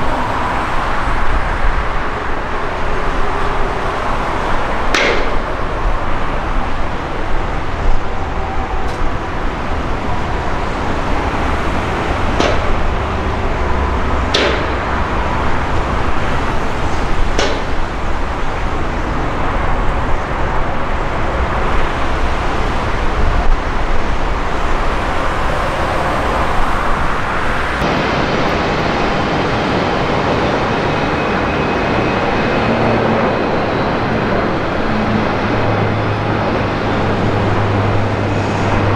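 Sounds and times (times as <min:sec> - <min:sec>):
jet engines rushing: 0:00.0 - 0:38.9
wind buffeting microphone: 0:00.0 - 0:38.9.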